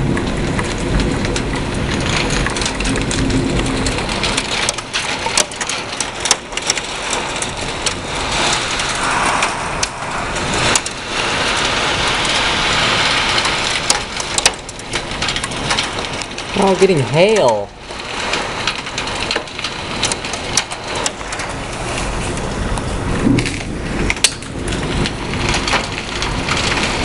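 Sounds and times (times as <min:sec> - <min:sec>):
low rumble of thunder: 0:00.0 - 0:16.6, 0:17.7 - 0:27.0
heavy rain pouring: 0:00.0 - 0:27.0.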